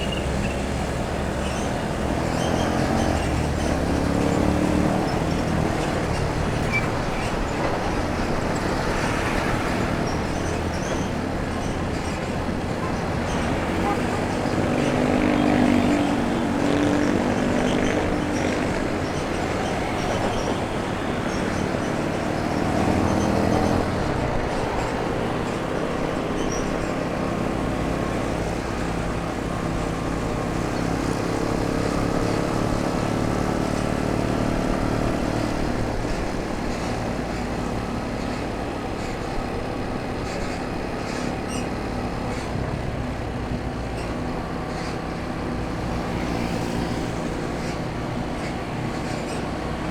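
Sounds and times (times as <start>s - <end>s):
motorbike engine: 0.0s - 49.9s
road noise: 0.0s - 49.9s.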